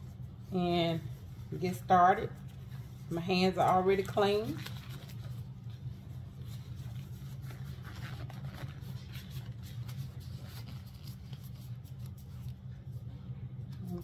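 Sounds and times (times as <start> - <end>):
soft rustling and handling: 0.0 - 14.0
steady low hum: 0.0 - 14.0.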